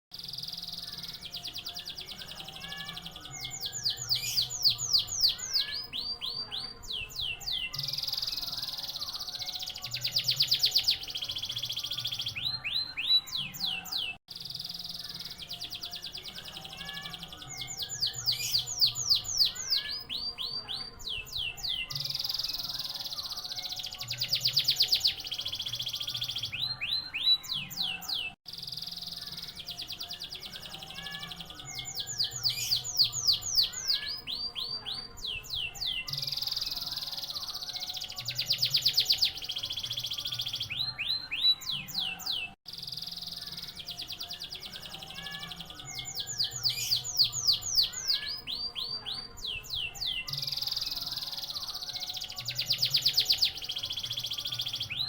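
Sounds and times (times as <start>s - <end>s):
canary singing trills: 0.1s - 55.0s.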